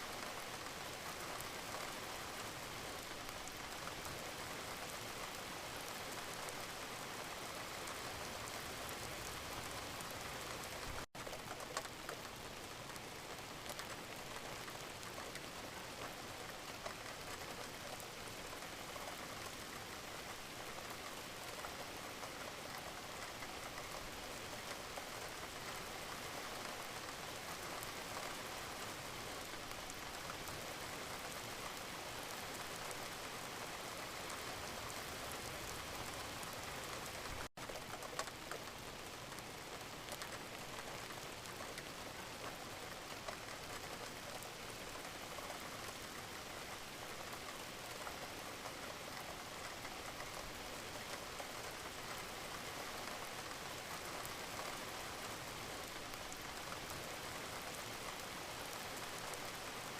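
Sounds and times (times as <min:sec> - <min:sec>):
gentle rain falling: 0:00.0 - 0:59.9
raindrops on a surface: 0:00.0 - 0:59.9.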